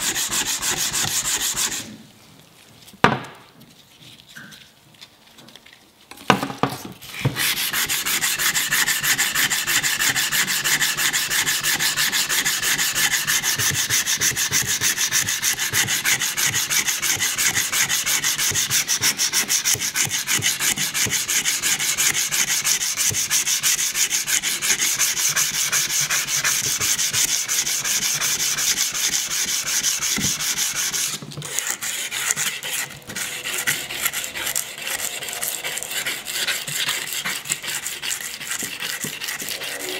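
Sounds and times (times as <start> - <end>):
sandpaper scrubbing steel blade: 0.0 - 1.9, 7.4 - 39.9.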